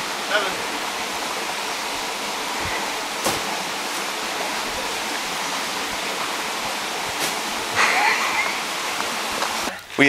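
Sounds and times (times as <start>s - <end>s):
creek rushing: 0.0s - 9.7s.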